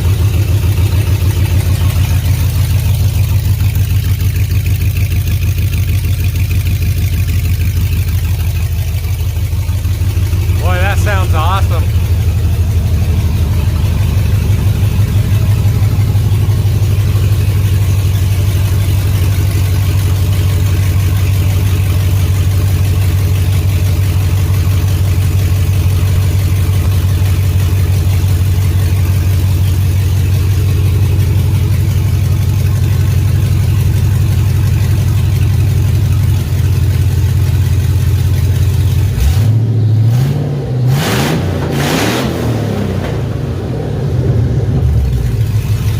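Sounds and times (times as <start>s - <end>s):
car engine idling throatily: 0.0s - 40.1s, 42.6s - 45.9s.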